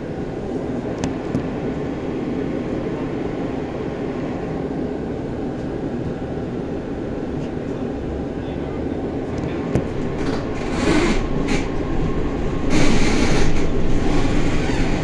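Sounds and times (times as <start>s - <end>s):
tram rumble and rolling: 0.0s - 15.0s.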